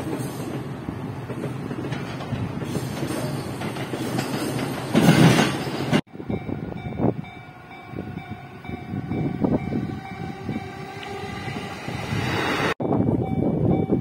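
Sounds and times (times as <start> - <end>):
train rushing past: 0.0 - 14.0.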